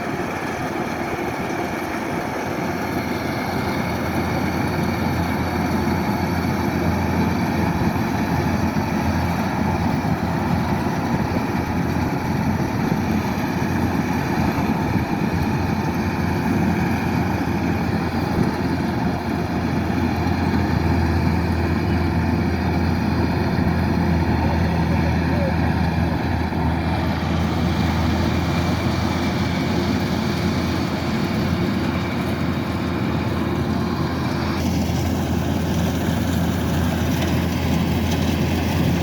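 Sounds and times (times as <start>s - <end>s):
combine harvester droning: 0.0s - 39.0s.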